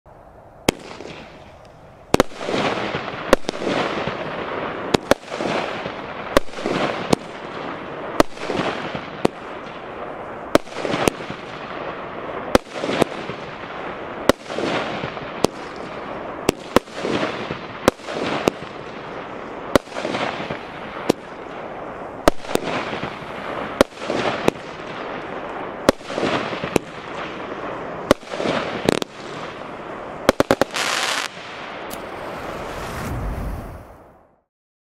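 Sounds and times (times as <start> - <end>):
crackling firework stars: 0.3 - 34.5.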